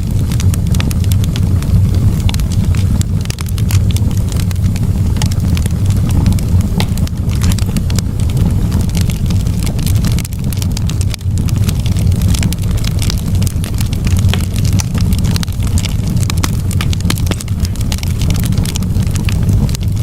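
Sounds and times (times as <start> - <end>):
low fire rumble: 0.0 - 20.0
wood crackling and popping in fire: 0.0 - 20.0.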